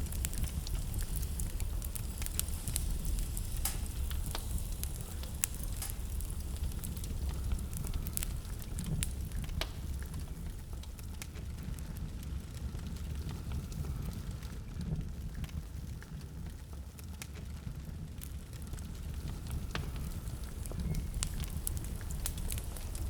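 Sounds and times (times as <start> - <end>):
blizzard wind rumble: 0.0 - 23.0
wood fire crackling: 0.0 - 23.0.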